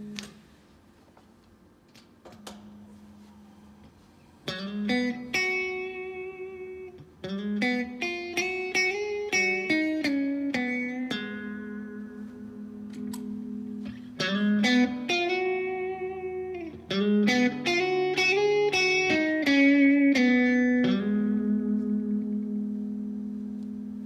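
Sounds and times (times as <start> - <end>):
electric guitar through valve amp: 0.0 - 0.6, 2.0 - 24.0.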